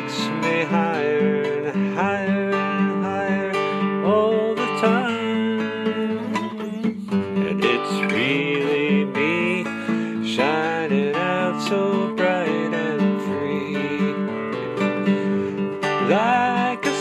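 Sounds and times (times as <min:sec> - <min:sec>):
person singing: 0:00.0 - 0:17.0
strummed acoustic guitar: 0:00.0 - 0:17.0.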